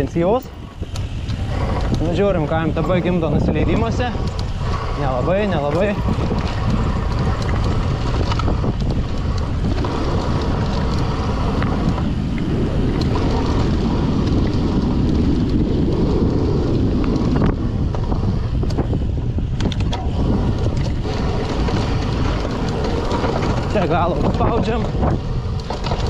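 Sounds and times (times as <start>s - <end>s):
bike rattling over bumps: 0.0s - 26.0s
bike tyres rolling on dirt: 0.0s - 26.0s
wind on microphone: 0.0s - 26.0s.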